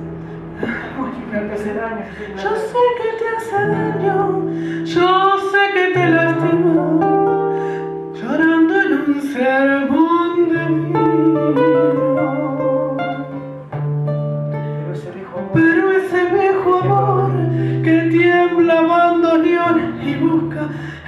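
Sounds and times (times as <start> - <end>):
tango music with guitar: 0.0 - 21.0.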